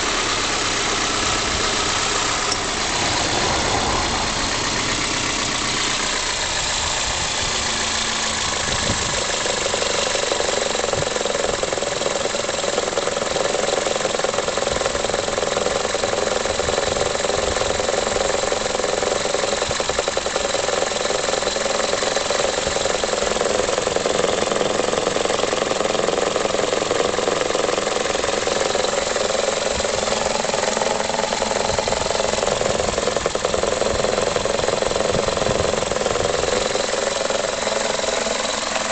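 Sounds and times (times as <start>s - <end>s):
car engine idling rough: 0.0s - 38.9s.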